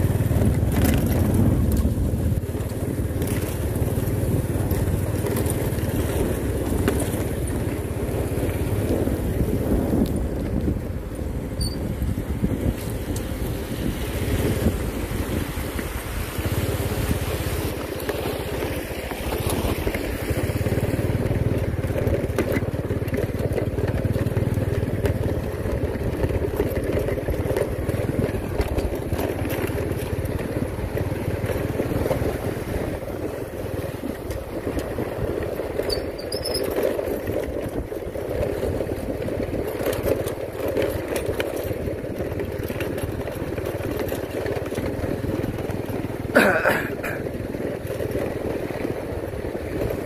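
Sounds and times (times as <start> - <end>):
small motorbike engine running: 0.0 - 50.0.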